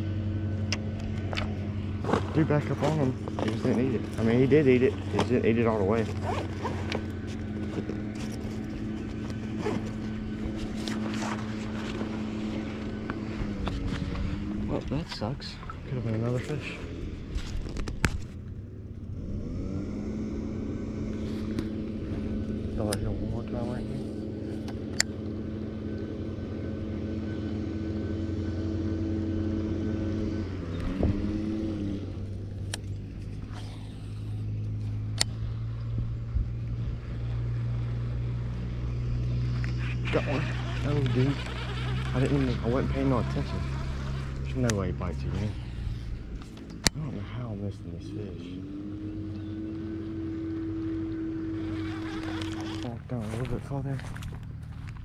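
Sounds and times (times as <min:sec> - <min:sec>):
motor humming: 0:00.0 - 0:55.0.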